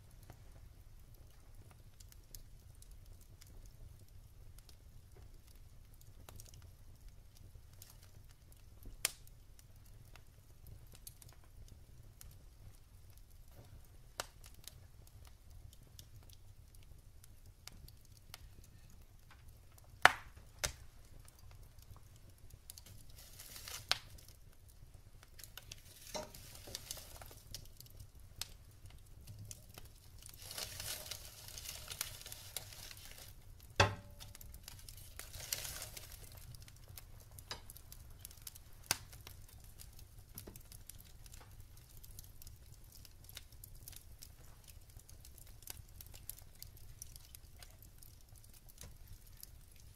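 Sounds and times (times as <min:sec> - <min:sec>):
burning logs popping: 0:00.0 - 0:49.9
soft hissing of burning wood: 0:00.0 - 0:49.9.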